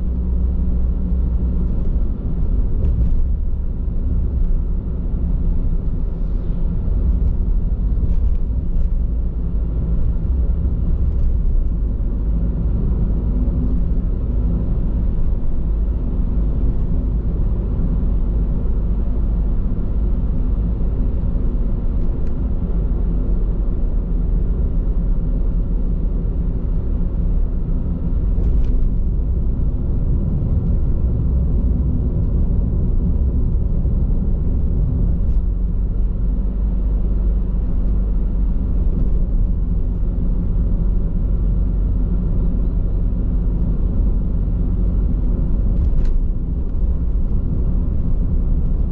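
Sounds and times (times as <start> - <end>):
road and tyre rumble in car: 0.0 - 48.9.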